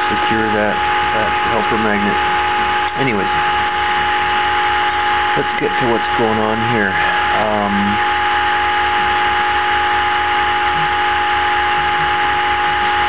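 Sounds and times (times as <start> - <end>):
magnet motor whine and buzzing: 0.0 - 13.0.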